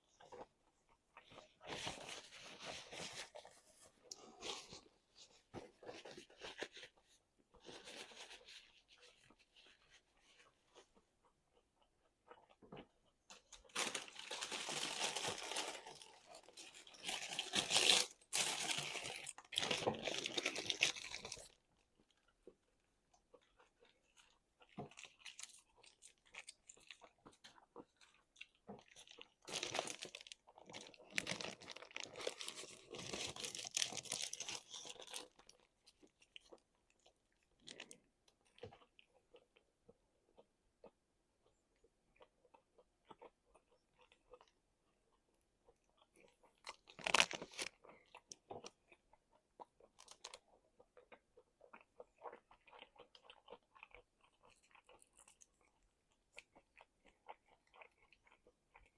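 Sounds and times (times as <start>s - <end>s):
chewing crunchy food: 0.0s - 58.9s.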